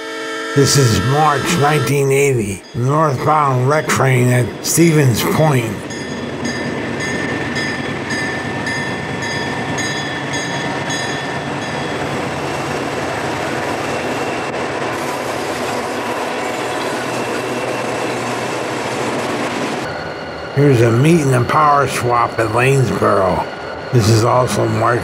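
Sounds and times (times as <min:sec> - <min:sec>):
crossing bell ringing: 0:00.0 - 0:25.0
diesel locomotive engines running: 0:00.0 - 0:25.0
high wheel squeal: 0:00.0 - 0:25.0
wheels rumbling over rails: 0:01.0 - 0:25.0.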